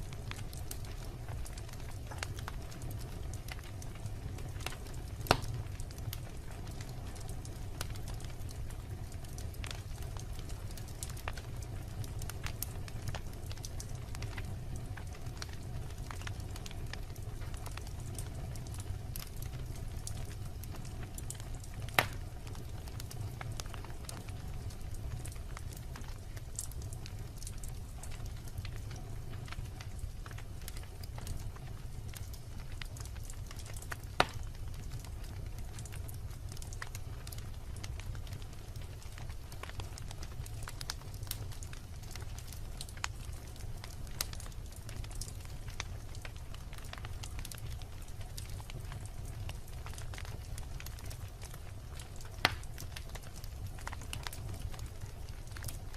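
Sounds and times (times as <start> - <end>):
log fire crackling: 0.0 - 55.9.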